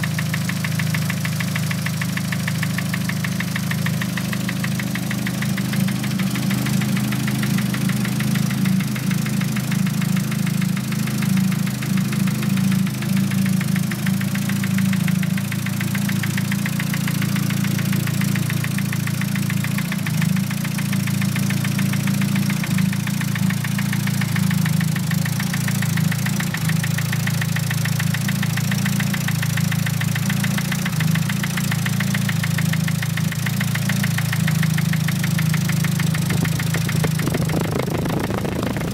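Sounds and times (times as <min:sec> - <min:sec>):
car engine idling: 0:00.0 - 0:38.9
rapid engine knocking: 0:00.0 - 0:38.9.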